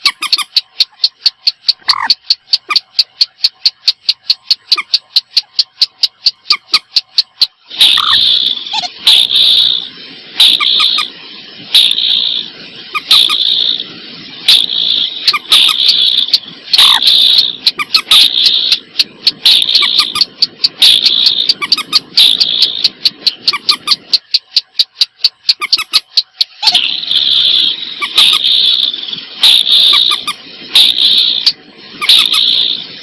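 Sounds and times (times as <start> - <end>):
fast clicking bird notes: 0.0 - 11.2, 11.8 - 13.7, 14.5 - 32.8.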